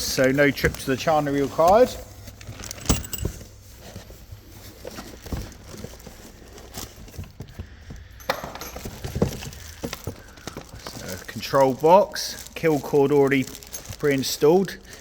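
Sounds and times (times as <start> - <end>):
packaging being handled: 0.0 - 15.0
packaging rustling: 0.2 - 15.0.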